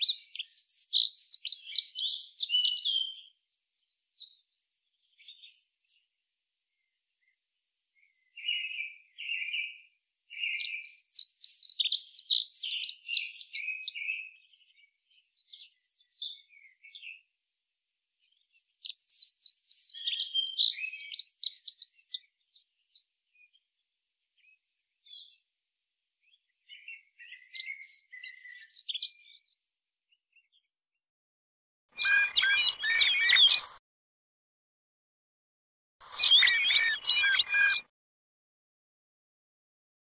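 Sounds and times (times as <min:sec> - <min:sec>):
songbird singing: 0:00.0 - 0:06.1, 0:06.7 - 0:17.3, 0:18.2 - 0:25.4, 0:26.2 - 0:30.7, 0:32.0 - 0:33.8, 0:36.0 - 0:37.9.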